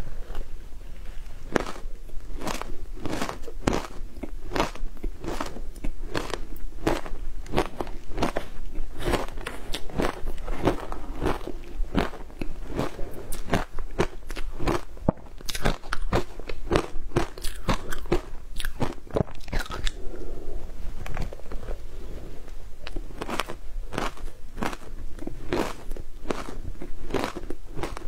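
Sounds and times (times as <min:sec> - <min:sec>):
soft chewing: 0:00.2 - 0:28.0
ice crunching in mouth: 0:01.5 - 0:20.0, 0:22.8 - 0:28.0.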